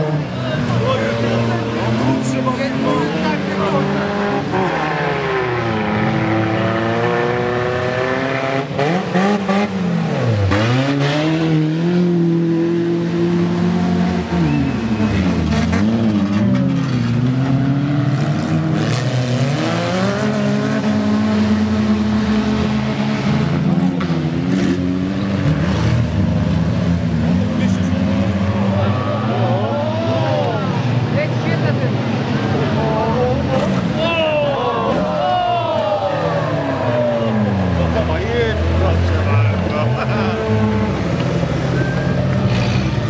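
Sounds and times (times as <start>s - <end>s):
car engines revving hard: 0.0s - 43.0s.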